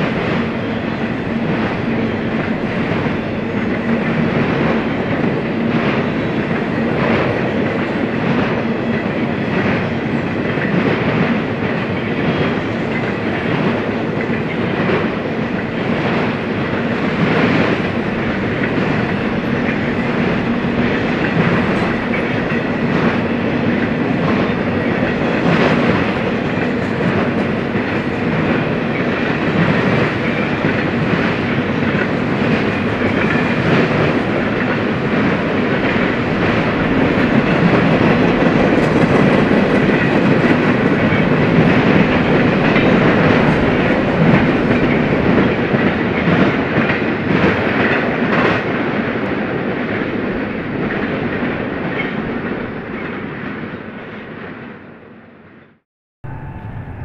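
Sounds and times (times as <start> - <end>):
wheels clacking over rail joints: 0.0 - 49.1
freight train rumbling past: 0.0 - 55.5, 56.2 - 57.0.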